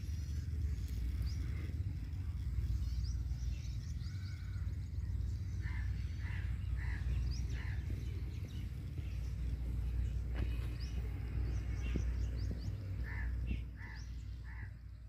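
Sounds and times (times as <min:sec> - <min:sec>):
small birds chirping faintly: 0:00.0 - 0:15.0
steady low rumble: 0:00.0 - 0:15.0.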